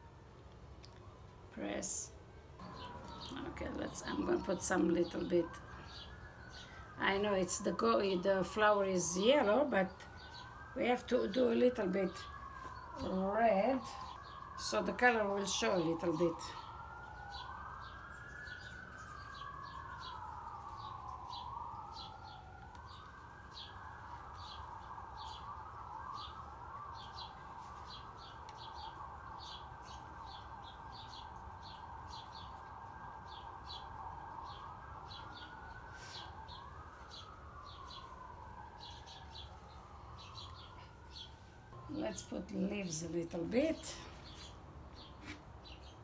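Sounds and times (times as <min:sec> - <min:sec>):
emergency sirens wailing: 0:00.0 - 0:46.0
small birds chirping: 0:00.9 - 0:46.0.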